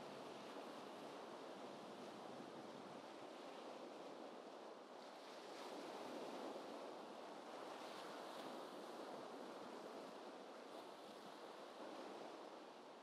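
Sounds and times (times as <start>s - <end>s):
gentle ocean waves: 0.0s - 13.0s.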